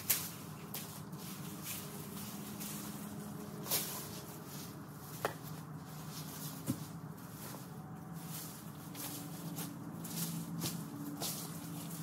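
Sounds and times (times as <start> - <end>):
branches and brush rustling: 0.0 - 12.0.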